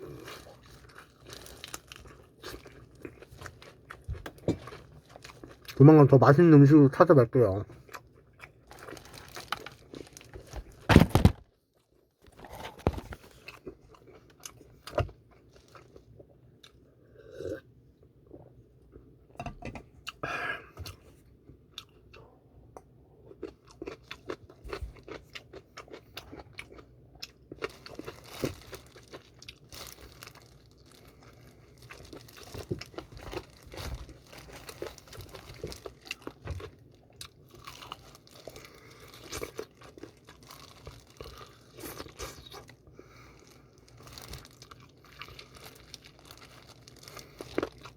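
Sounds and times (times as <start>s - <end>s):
chewing crunchy fried chicken: 0.0s - 6.8s, 7.4s - 17.5s, 20.1s - 47.9s.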